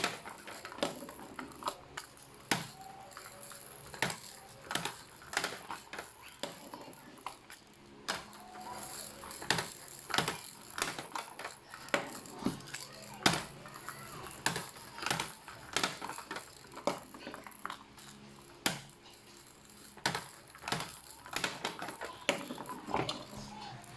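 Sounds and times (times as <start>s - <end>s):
balls clattering through marble run: 0.0s - 23.9s.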